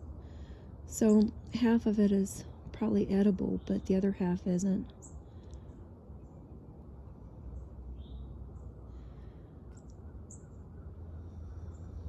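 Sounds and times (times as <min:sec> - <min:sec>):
low background rumble: 0:00.0 - 0:12.0
songbirds chirping: 0:00.2 - 0:06.7, 0:07.4 - 0:12.0.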